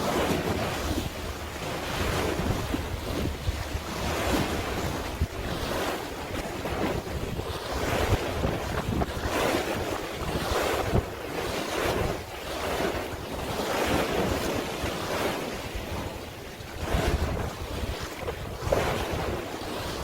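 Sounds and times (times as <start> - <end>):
sea waves washing: 0.0 - 20.0
wind rumbling on microphone: 0.0 - 20.0.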